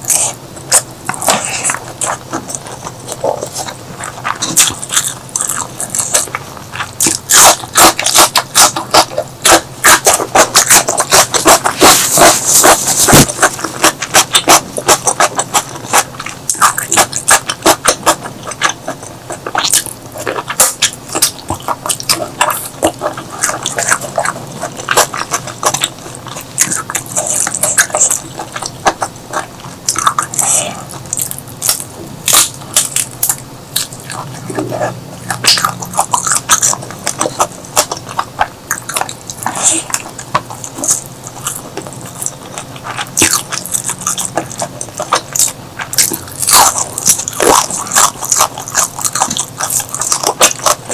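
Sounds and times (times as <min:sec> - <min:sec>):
close chewing and crunching: 0:00.0 - 0:50.9.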